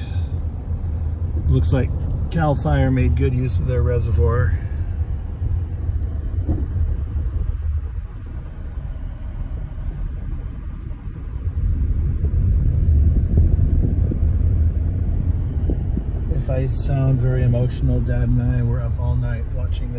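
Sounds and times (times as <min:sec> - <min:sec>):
car road and engine rumble: 0:00.0 - 0:19.9.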